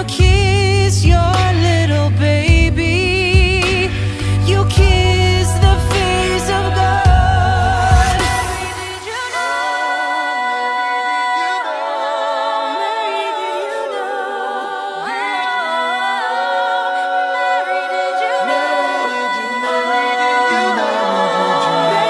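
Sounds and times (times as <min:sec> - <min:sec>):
a cappella group singing chords: 0:00.0 - 0:22.0.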